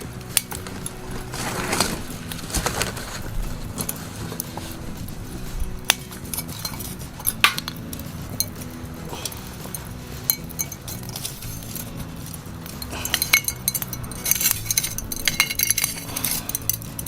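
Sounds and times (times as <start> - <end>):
charcoal clinking in metal pit: 0.0 - 17.0.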